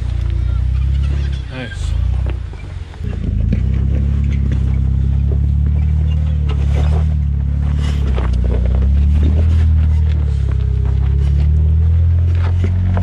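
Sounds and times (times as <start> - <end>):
engine running at low speed: 0.0 - 13.0
knocks and rattles: 0.0 - 13.0.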